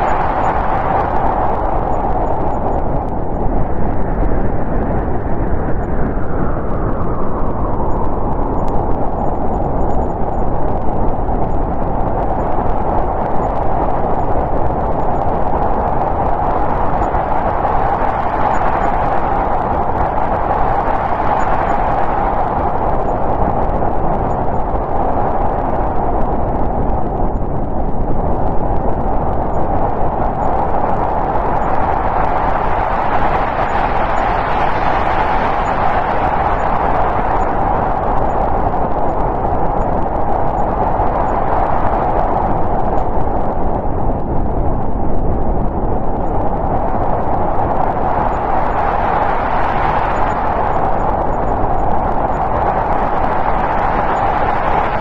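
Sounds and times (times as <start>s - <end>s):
snowstorm wind blowing: 0.0s - 55.0s.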